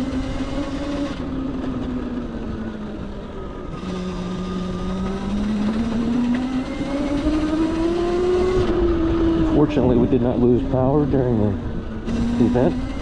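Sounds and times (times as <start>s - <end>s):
electric bike motor whining: 0.0s - 13.0s.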